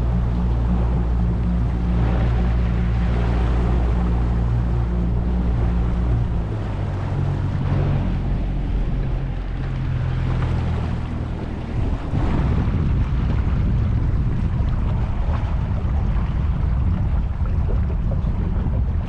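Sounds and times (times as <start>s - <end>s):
boat motor humming: 0.0s - 19.0s
water noise: 0.0s - 19.0s
wind: 0.0s - 19.0s.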